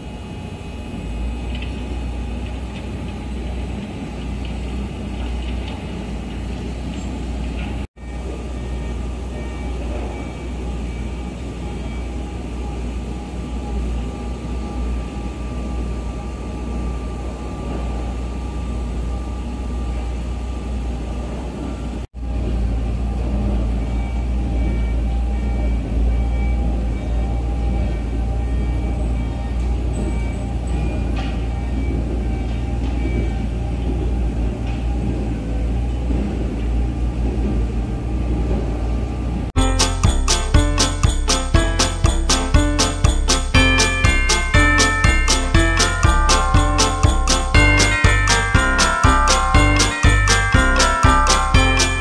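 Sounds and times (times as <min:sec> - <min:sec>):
electric train rumble and hum: 0:00.0 - 0:52.0.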